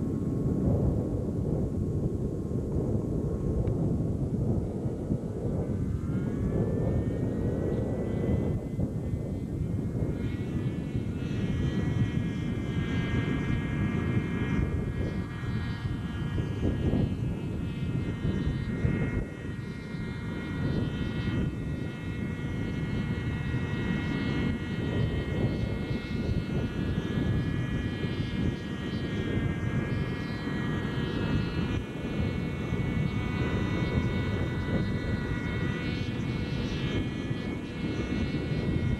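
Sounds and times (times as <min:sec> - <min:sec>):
model helicopter whine: 0:00.0 - 0:38.9.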